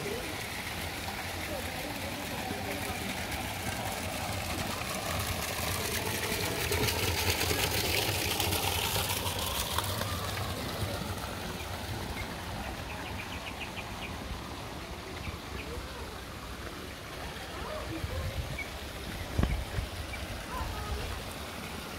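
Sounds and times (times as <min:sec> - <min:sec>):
fountain water splashing into pond: 0:00.0 - 0:21.9.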